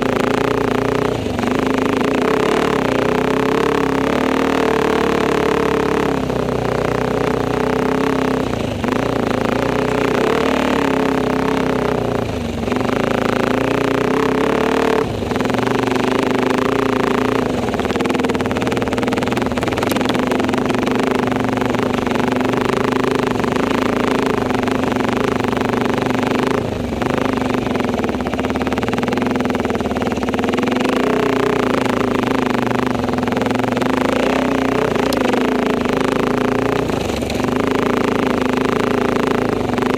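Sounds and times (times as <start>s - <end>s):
motorcycle engine pulling under load: 0.0s - 39.9s.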